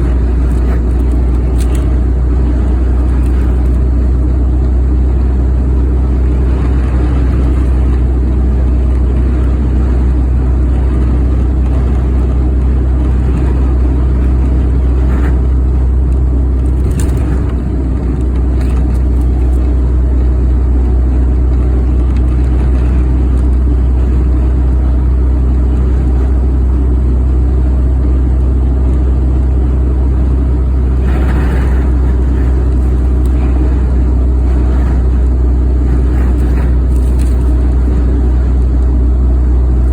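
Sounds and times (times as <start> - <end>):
road and wind noise inside vehicle: 0.0 - 39.9.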